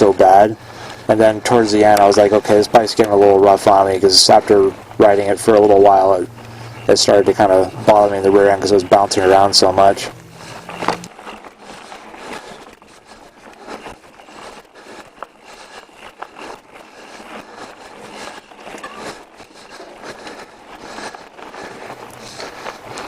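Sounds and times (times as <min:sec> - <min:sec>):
bike clicks and rattles: 0:00.0 - 0:23.0
tyres crunching on dirt and stones: 0:00.0 - 0:23.0.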